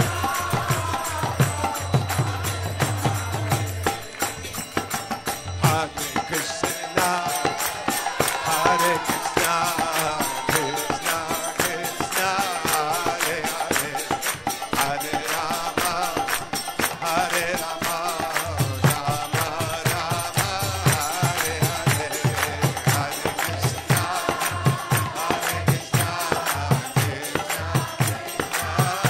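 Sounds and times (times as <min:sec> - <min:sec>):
light percussion beat: 0:00.0 - 0:29.0
voices chanting a melody: 0:00.0 - 0:29.0.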